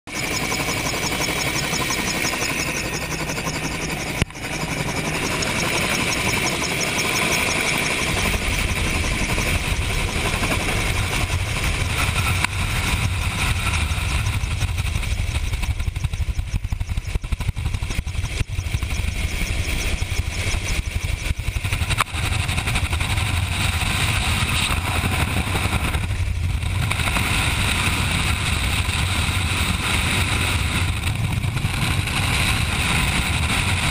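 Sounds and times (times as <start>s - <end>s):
helicopter rotor and engine: 0.1s - 33.9s.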